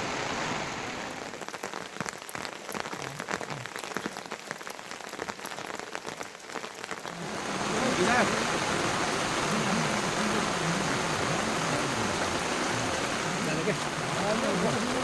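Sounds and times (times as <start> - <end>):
rain falling: 0.0 - 15.0
raindrops ticking close by: 0.9 - 15.0.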